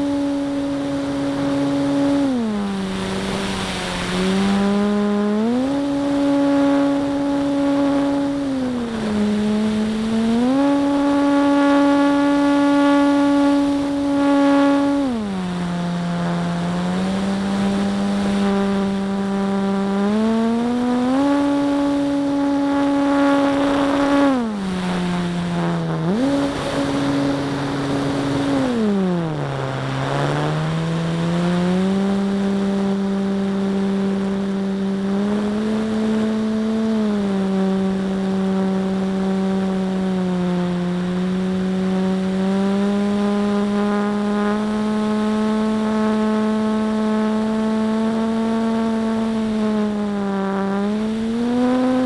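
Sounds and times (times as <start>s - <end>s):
model plane motor and propeller: 0.0s - 52.0s.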